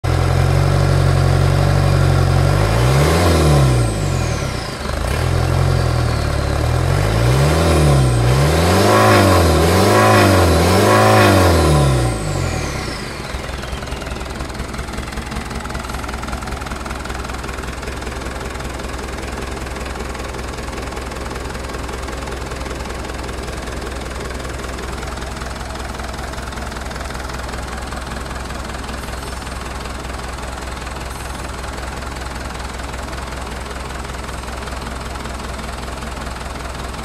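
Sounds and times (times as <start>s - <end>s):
diesel engine idling and revving: 0.0s - 37.0s.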